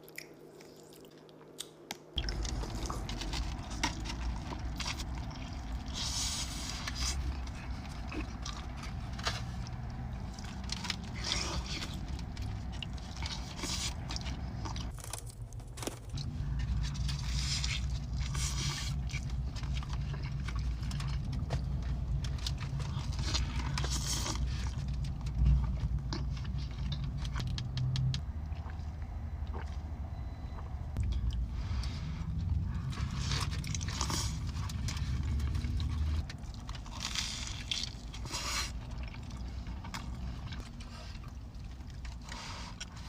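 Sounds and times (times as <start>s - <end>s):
tortilla crunching: 0.0s - 28.8s, 31.0s - 43.0s
steady low hum: 0.0s - 43.0s
wet chewing: 0.0s - 43.0s.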